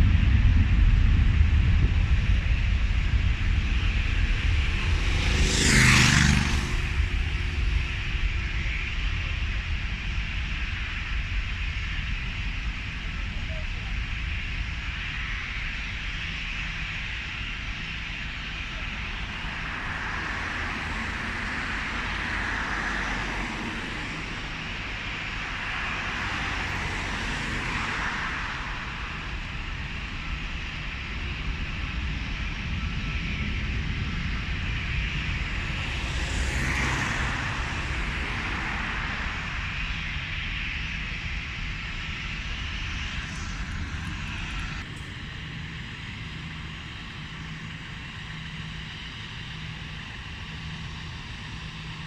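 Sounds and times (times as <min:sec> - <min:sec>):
aircraft engines running: 0:00.0 - 0:52.0.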